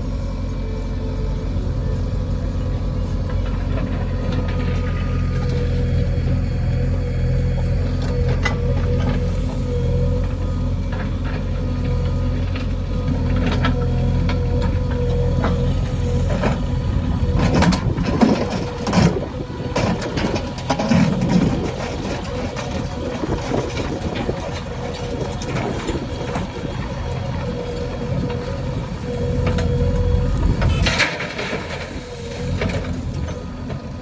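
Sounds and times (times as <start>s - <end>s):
backhoe diesel engine running: 0.0s - 34.0s.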